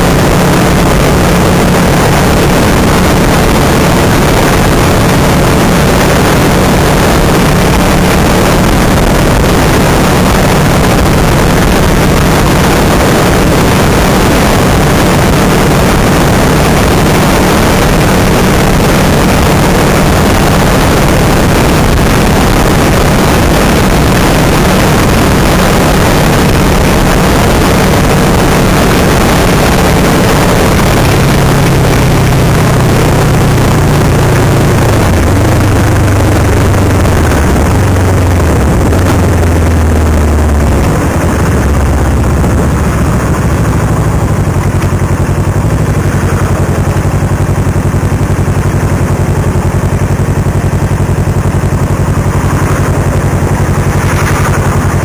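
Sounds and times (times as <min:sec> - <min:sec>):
motorcycle engine cruising: 0:00.0 - 0:55.0
wind rush on camera: 0:00.0 - 0:55.0.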